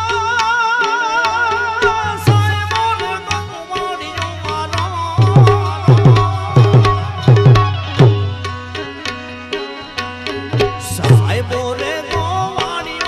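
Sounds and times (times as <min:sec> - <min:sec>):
held melody line: 0:00.0 - 0:13.0
tabla playing: 0:00.0 - 0:13.0.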